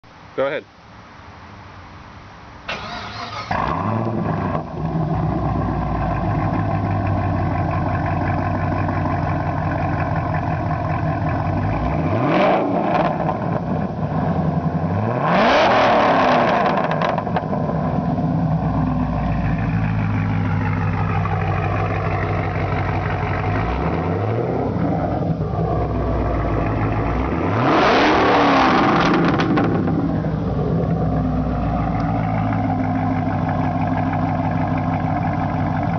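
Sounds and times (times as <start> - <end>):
car engine idling and revving: 2.7 - 35.9.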